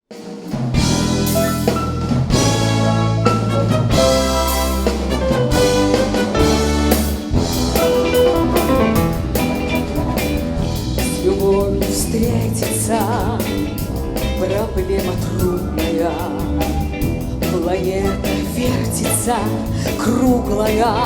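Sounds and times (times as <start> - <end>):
brass band with drum kit: 0.1 - 21.0.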